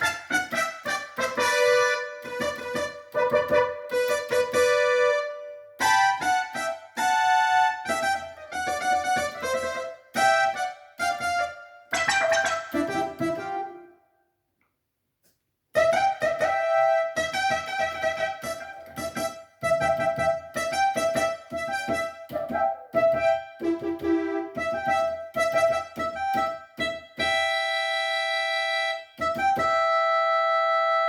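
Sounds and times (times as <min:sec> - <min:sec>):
electronic keyboard playing notes: 0:00.0 - 0:14.0, 0:15.8 - 0:31.0.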